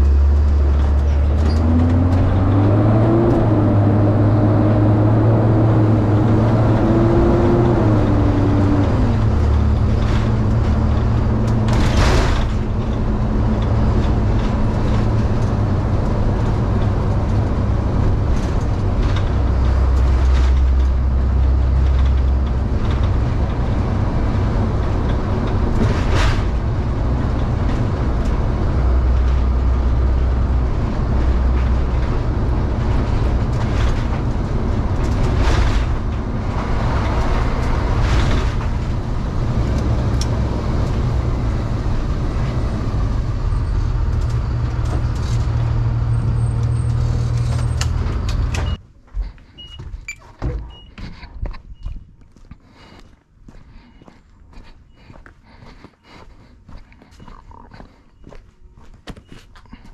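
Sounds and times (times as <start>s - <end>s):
van body rattling: 0.0s - 52.2s
road noise: 0.0s - 59.9s
van engine drone: 0.0s - 59.9s.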